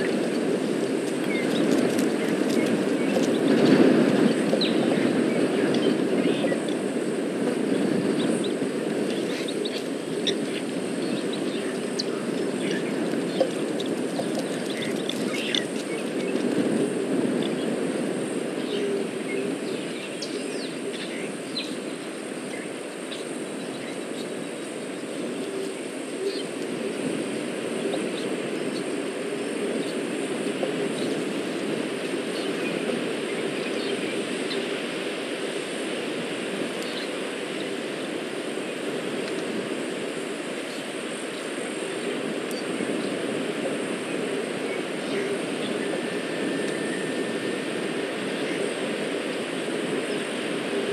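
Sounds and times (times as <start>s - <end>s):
faint high whine: 0.0s - 50.9s.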